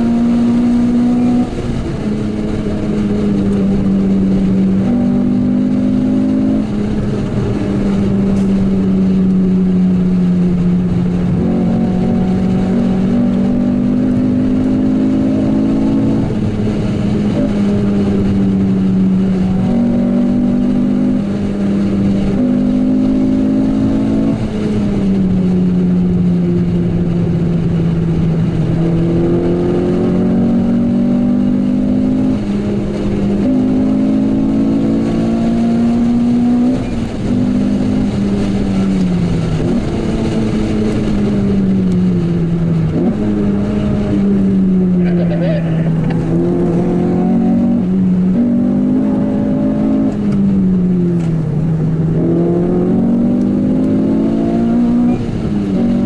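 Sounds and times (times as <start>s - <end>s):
car engine heard from inside cabin: 0.0s - 56.0s.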